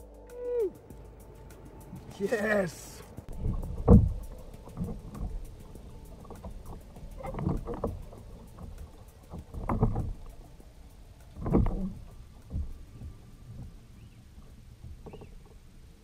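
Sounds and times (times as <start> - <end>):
low rumble: 0.0 - 16.0
water sloshing against kayak: 3.2 - 16.0.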